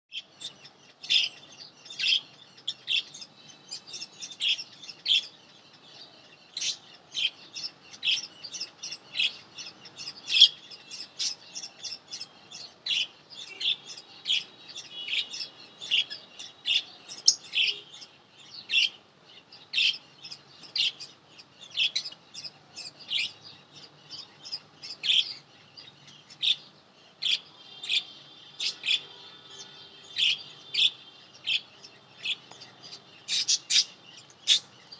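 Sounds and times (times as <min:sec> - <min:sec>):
lovebirds chirping: 0:00.1 - 0:34.9.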